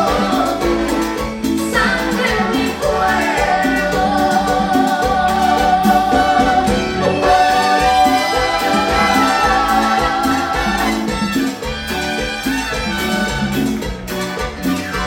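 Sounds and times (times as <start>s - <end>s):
dance orchestra playing latin ballad: 0.0s - 15.0s.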